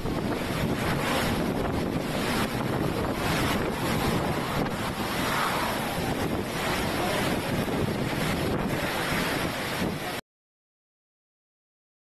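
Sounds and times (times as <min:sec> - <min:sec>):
driving rain: 0:00.0 - 0:10.2
roaring hurricane wind: 0:00.0 - 0:10.2.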